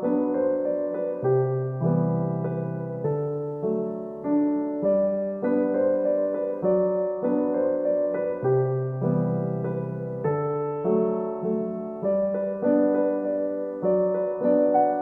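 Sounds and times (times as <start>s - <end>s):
gentle electric piano tune: 0.0s - 15.0s.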